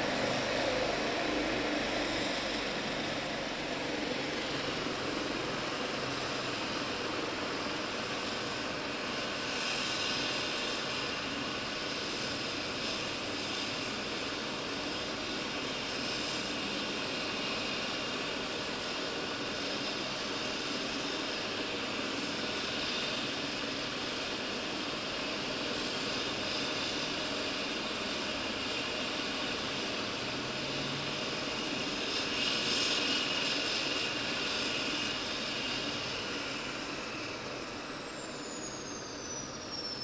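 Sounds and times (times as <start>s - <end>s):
helicopter rotor noise: 0.0s - 40.0s
helicopter turbine whine: 0.0s - 40.0s.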